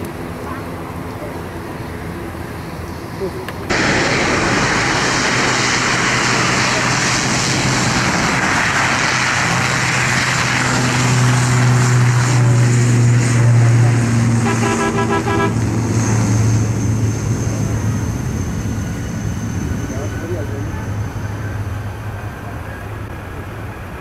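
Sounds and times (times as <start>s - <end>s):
aircraft engines droning: 0.0s - 24.0s
high whine: 3.6s - 23.6s.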